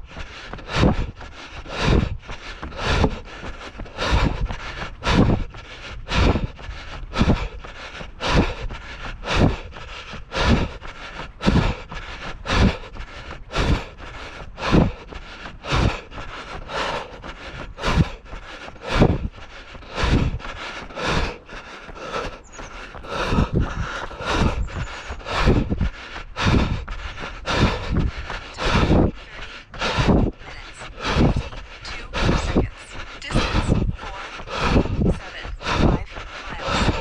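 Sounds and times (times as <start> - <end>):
feet scraping: 0.0 - 37.0
footsteps jogging on dirt trail: 0.0 - 37.0.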